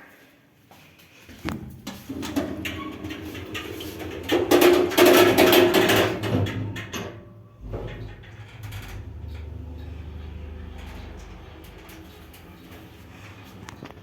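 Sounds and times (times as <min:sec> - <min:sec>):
elevator doors clattering and whining: 0:02.0 - 0:14.0
elevator humming: 0:02.5 - 0:14.0.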